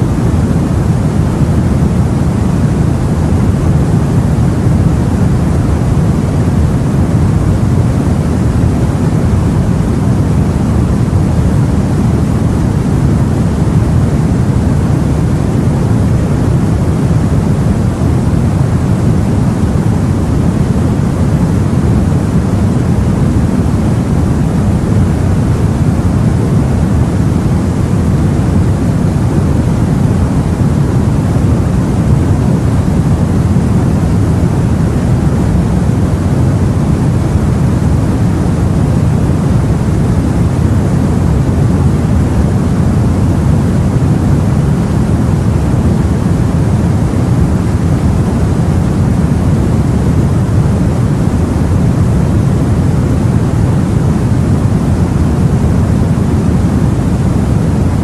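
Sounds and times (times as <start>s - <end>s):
deep rumbling sea: 0.0s - 58.0s
wind noise: 0.0s - 58.0s.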